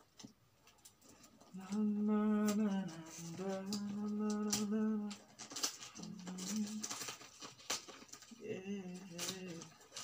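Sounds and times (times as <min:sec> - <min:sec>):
paper rustling and crinkling: 0:00.0 - 0:10.0.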